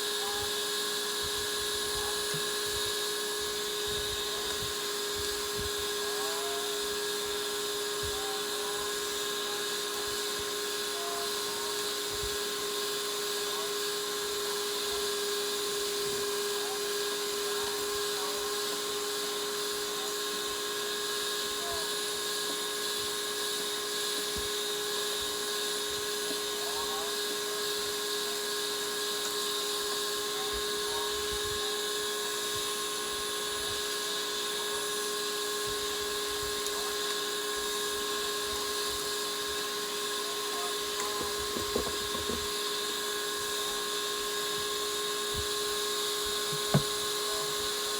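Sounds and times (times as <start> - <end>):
small motor whining: 0.0 - 47.9.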